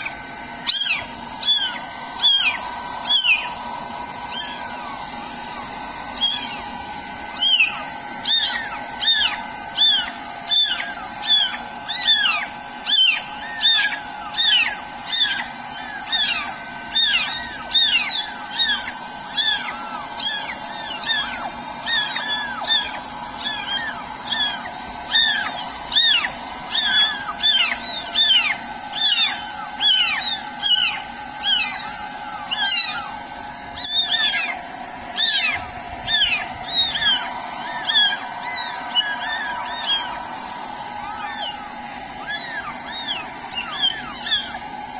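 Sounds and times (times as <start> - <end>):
hairdryer whine: 0.0 - 44.9
kittens mewing: 0.0 - 44.9.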